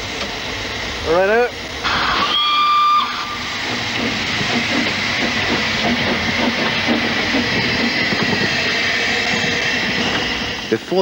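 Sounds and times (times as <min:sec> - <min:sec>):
steam hissing: 0:01.8 - 0:11.0
steam locomotive puffs and knocks: 0:01.8 - 0:11.0.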